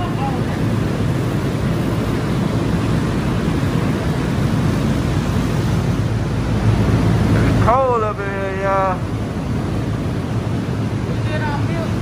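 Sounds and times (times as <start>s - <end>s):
refrigeration blowers rushing: 0.0s - 12.0s.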